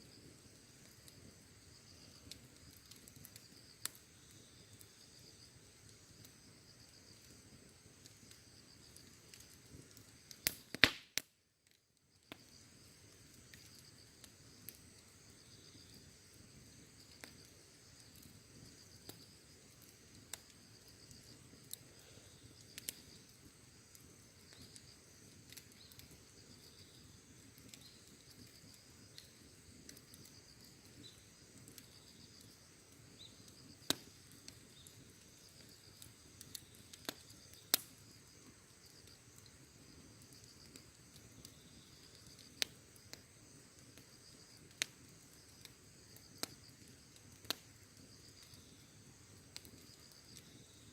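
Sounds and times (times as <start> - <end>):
crickets chirping: 0.0 - 10.3, 12.0 - 50.9
campfire crackling and popping: 0.0 - 50.9.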